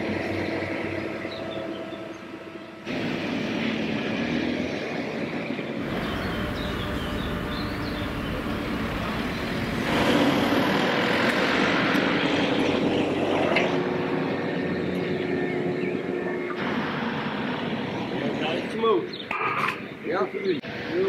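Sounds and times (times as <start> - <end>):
crane diesel engine running: 0.0 - 18.6.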